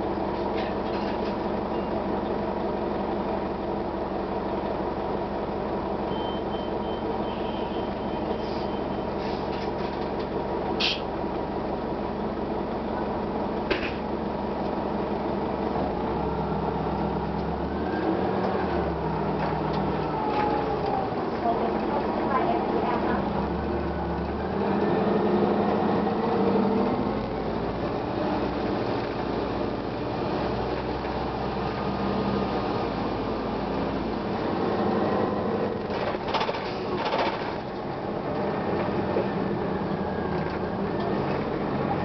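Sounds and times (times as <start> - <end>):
bus diesel engine droning: 0.0 - 42.0.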